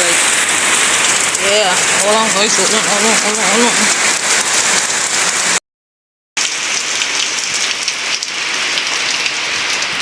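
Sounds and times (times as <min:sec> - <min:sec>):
heavy rain: 0:00.0 - 0:05.6, 0:06.4 - 0:10.0.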